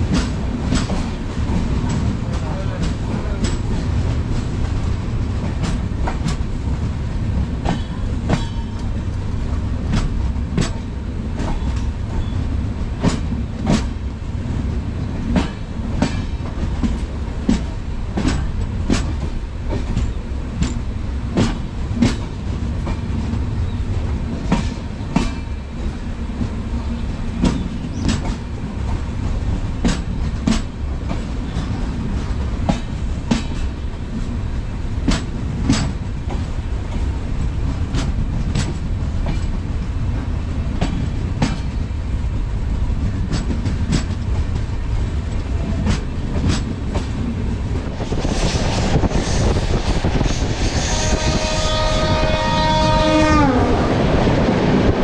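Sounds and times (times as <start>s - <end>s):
train wheels clacking over rail joints: 0.0s - 41.9s, 43.0s - 53.1s
train rumbling: 0.0s - 55.0s.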